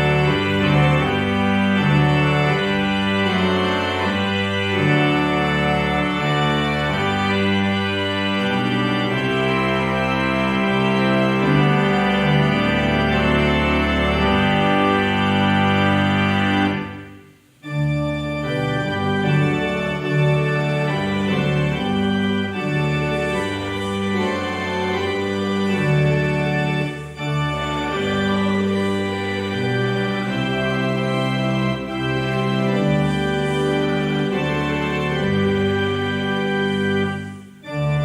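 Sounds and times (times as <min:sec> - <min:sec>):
organ playing chords: 0:00.0 - 0:38.0.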